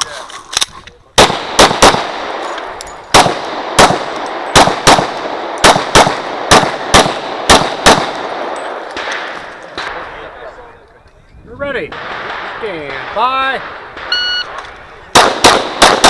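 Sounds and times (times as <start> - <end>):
pistol shots with echo: 1.2 - 10.4, 11.9 - 16.0.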